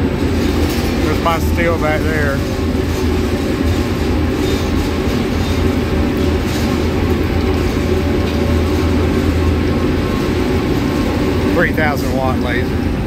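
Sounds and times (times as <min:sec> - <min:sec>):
laser cutting machine running: 0:00.0 - 0:13.0.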